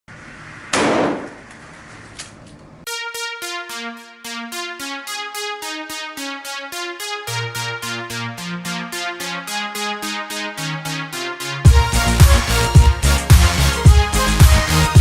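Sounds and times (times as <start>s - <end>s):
electronic intro music: 2.9s - 15.0s.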